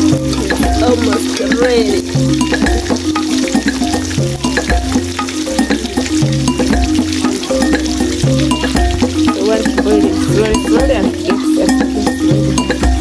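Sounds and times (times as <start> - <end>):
background music with bass: 0.0 - 13.0
oil sizzling and crackling: 0.0 - 13.0.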